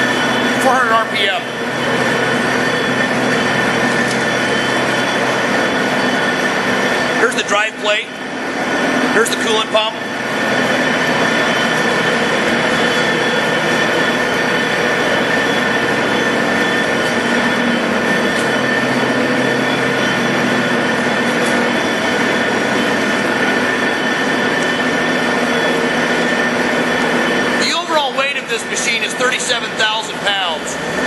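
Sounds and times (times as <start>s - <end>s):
lathe drone with whine: 0.0s - 31.0s.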